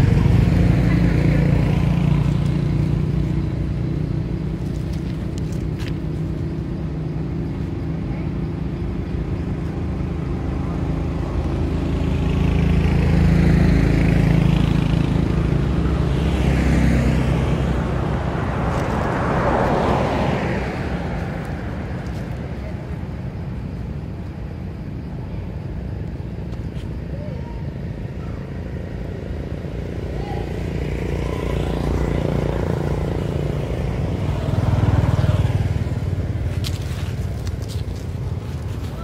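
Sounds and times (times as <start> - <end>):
low engine hum: 0.0 - 39.0
vehicles passing by: 0.0 - 39.0.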